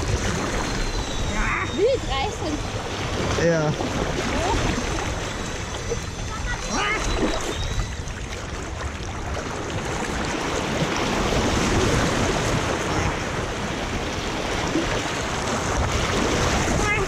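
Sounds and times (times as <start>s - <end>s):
rushing churning water rapids: 0.0s - 17.0s.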